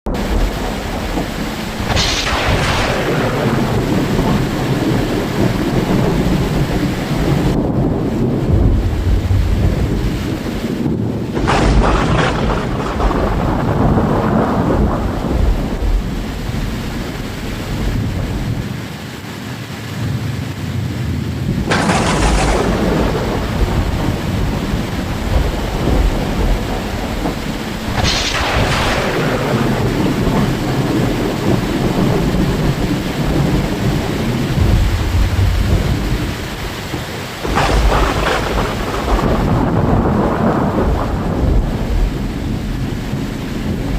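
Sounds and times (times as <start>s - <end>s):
thunder cracks and rumbling: 0.1s - 18.8s, 20.0s - 43.9s
rain falling: 0.1s - 43.9s.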